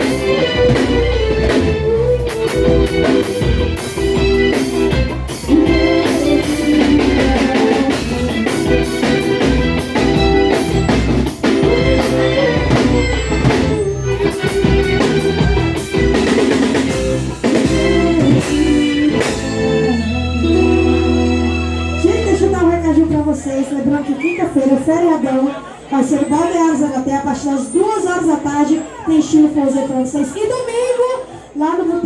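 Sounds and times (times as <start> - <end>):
live band playing instrumental: 0.0 - 31.6.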